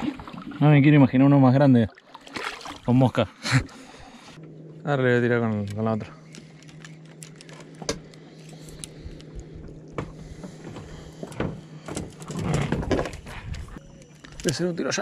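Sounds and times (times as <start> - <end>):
steady low hum: 2.9 - 15.0.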